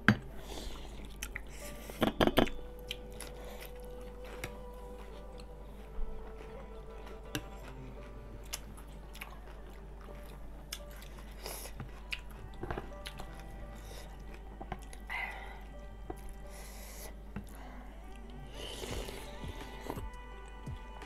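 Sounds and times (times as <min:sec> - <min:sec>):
people chewing: 0:00.0 - 0:21.0.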